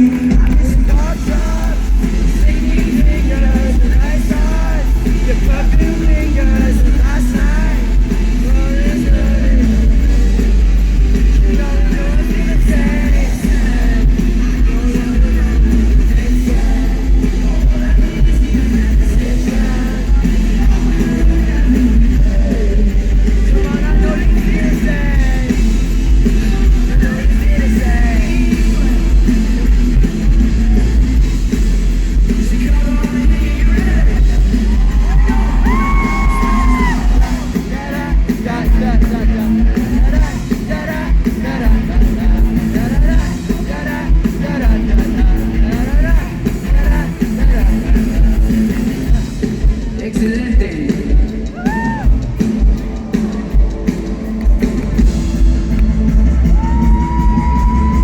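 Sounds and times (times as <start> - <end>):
crowd singing and yelling: 0.0 - 58.0
live rock band playing: 0.0 - 58.0.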